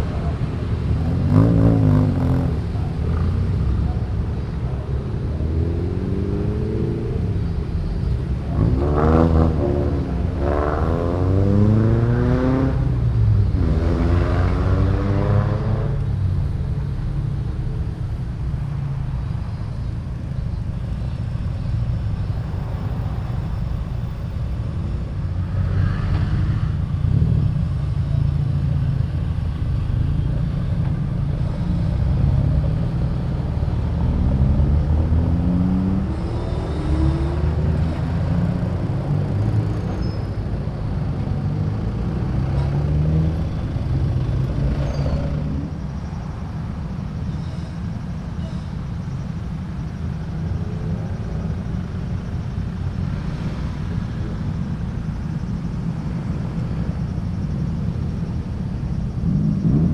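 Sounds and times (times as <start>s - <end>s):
car engines accelerating: 0.0s - 59.9s
engines idling low rumble: 2.3s - 6.1s, 6.7s - 8.6s, 15.9s - 35.3s, 36.0s - 59.9s.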